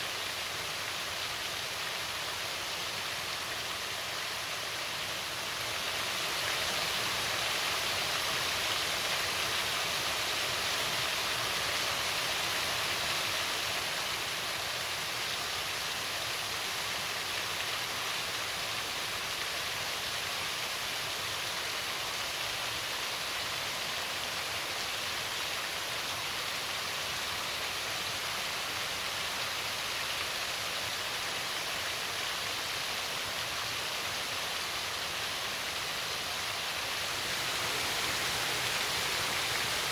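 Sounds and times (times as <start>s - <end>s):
waterfall pouring over rocks: 0.0s - 39.9s.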